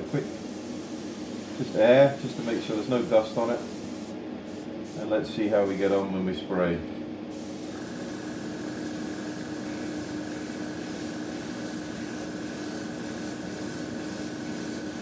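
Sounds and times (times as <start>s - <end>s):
airbrush hissing: 0.0s - 6.0s, 7.3s - 15.0s
steady low hum: 0.0s - 15.0s.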